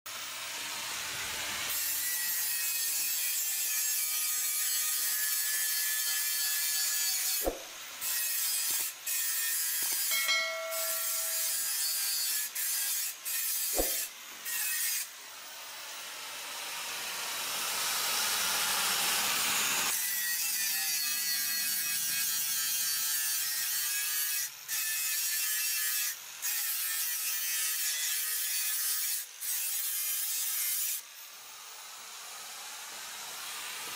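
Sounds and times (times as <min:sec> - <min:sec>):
angle grinder grinding steel: 0:00.1 - 0:15.6, 0:18.1 - 0:31.3.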